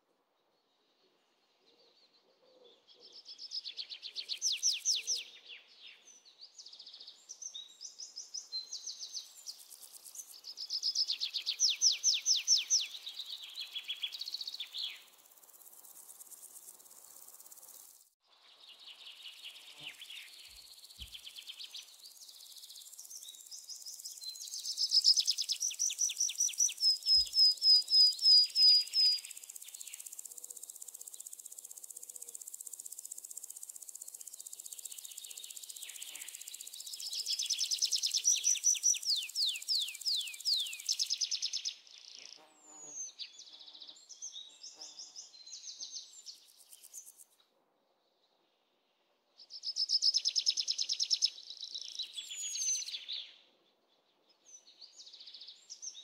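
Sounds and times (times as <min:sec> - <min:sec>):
birds and insects chirping: 0:02.8 - 0:47.4, 0:49.4 - 0:56.0.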